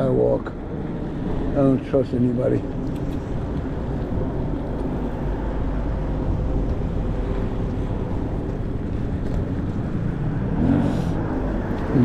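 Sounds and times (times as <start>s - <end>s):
passing traffic: 0.0s - 12.0s
road noise: 0.0s - 12.0s.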